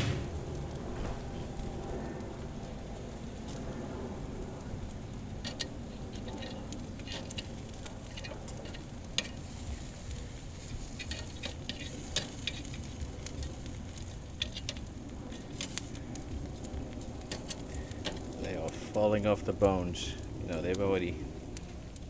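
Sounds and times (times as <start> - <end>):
low background noise: 0.0 - 22.0
ribs sizzling on a grill: 0.0 - 22.0.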